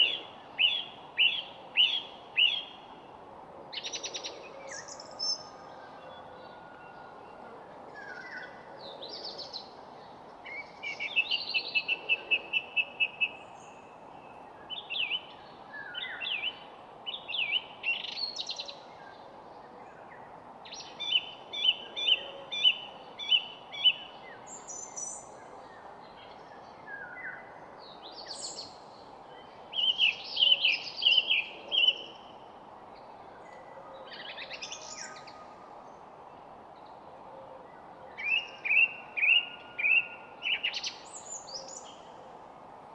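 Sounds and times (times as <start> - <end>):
songbirds singing: 0.0 - 42.9.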